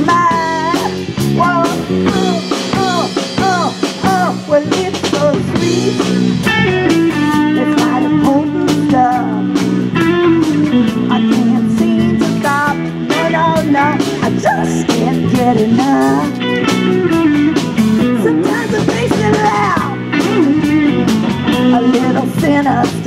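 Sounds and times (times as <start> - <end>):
blues band playing: 0.0 - 23.0
lead guitar bending notes: 0.0 - 23.0
steady drum beat: 0.0 - 23.0.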